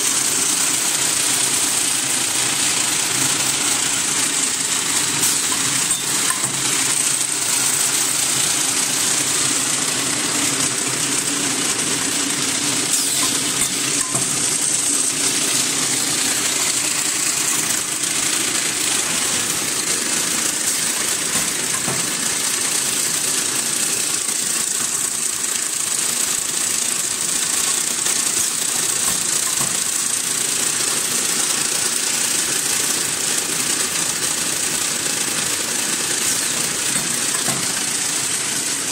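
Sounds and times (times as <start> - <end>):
packing machine humming and hissing: 0.0 - 38.9.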